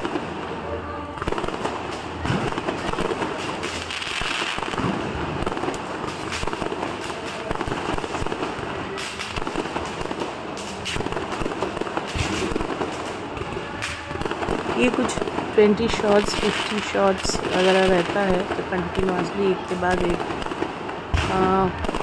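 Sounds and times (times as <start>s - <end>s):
firework cakes firing: 0.0s - 22.0s.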